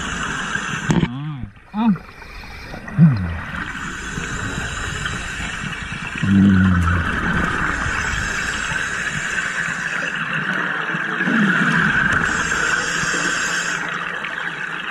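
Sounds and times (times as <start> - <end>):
underwater air hiss and bubbles: 0.0 - 1.0, 2.0 - 14.8.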